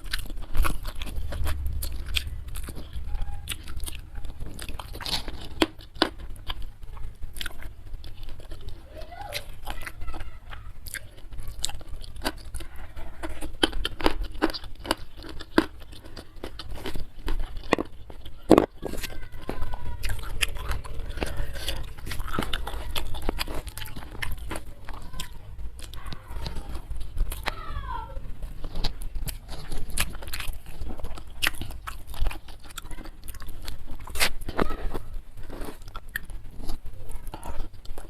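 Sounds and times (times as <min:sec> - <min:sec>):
chewing and crunching food: 0:00.0 - 0:38.0.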